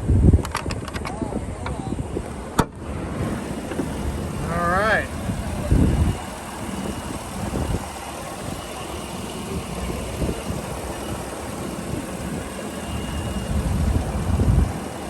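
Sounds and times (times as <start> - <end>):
car engine idling: 1.7 - 15.0.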